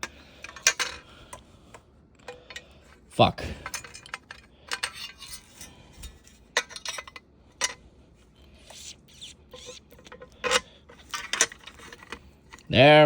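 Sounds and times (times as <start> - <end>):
fan motor parts clicking: 0.0 - 7.8, 8.4 - 12.8.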